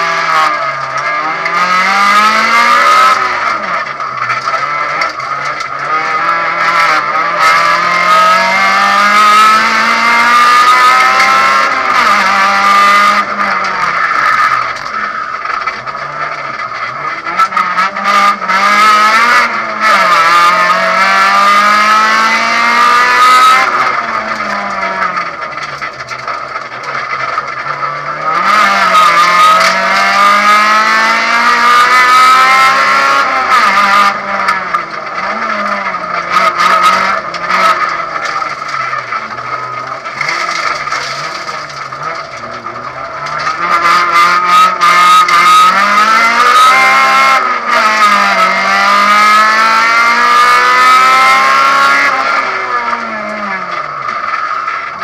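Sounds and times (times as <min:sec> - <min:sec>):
rally car engine accelerating: 0:00.0 - 0:55.0.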